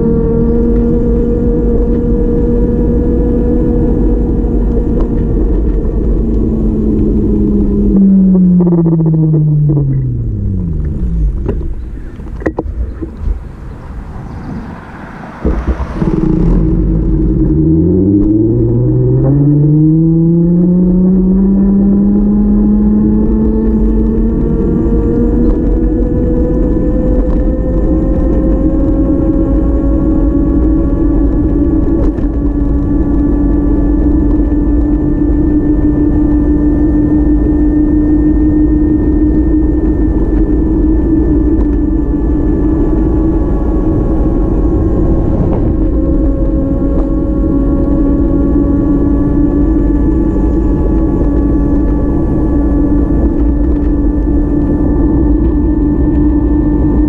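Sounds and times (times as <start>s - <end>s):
low rumble: 0.0s - 57.0s
vehicle engine running: 0.0s - 57.0s.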